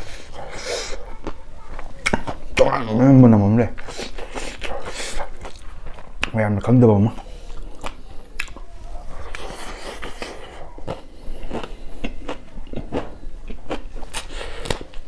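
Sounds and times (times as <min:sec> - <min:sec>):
crunchy chewing mouth sounds: 0:00.0 - 0:02.9, 0:03.7 - 0:06.4, 0:07.1 - 0:15.0.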